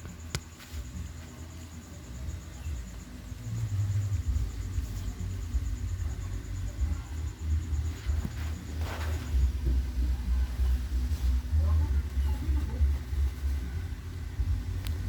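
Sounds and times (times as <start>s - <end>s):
low rumble: 2.2s - 15.0s.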